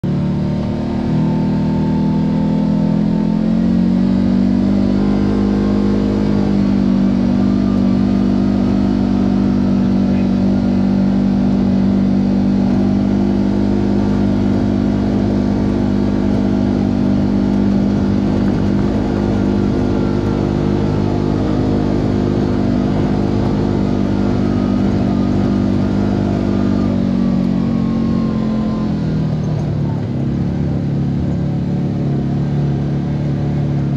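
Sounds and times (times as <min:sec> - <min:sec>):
vehicle engine running: 0:00.0 - 0:33.9.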